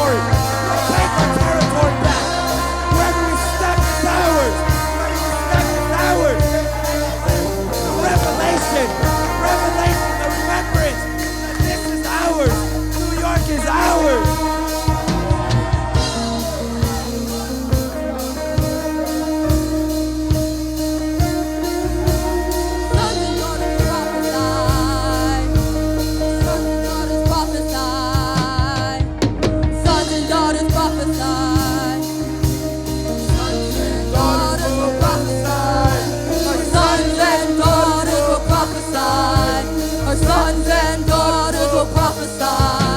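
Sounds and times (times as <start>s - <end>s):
drum kit: 0.0s - 42.9s
guitar: 0.0s - 42.9s
person singing: 0.0s - 42.9s
worship band music: 0.0s - 42.9s.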